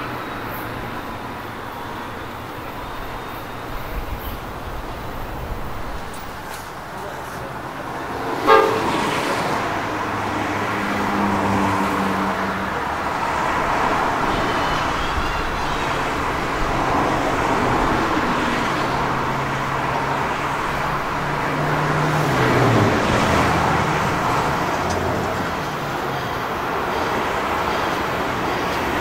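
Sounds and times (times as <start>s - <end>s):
electric locomotive rumble: 0.0s - 29.0s
road traffic: 0.0s - 29.0s.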